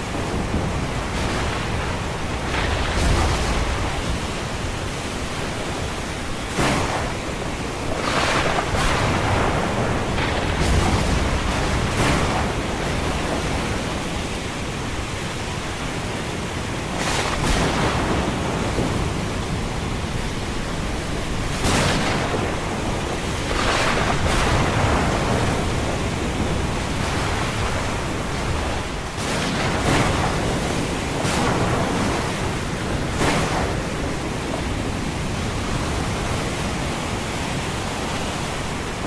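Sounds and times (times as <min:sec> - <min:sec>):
surf rushing: 0:00.0 - 0:39.0
waves crashing: 0:00.0 - 0:39.0.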